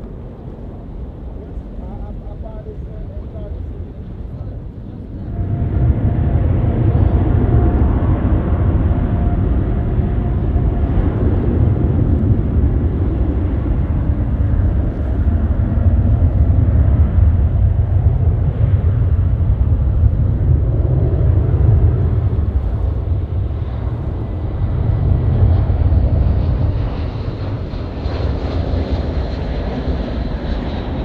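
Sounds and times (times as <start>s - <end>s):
faint engine whine: 0.0s - 31.0s
jet airliner engine rumble: 0.0s - 31.0s.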